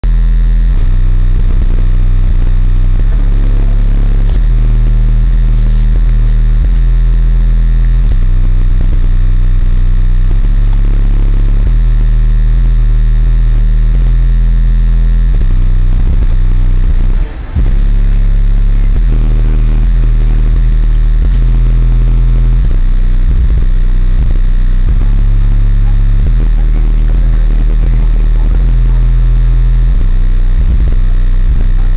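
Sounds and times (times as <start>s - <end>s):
loud deep bass music: 0.0s - 31.9s.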